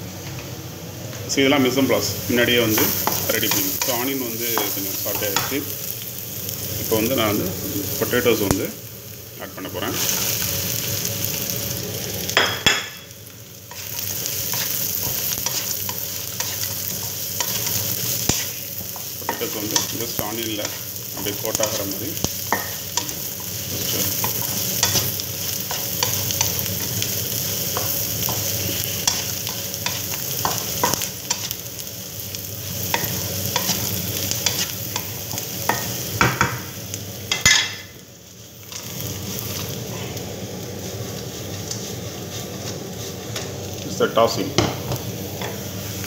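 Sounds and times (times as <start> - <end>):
potatoes sizzling in oil: 0.0 - 46.0.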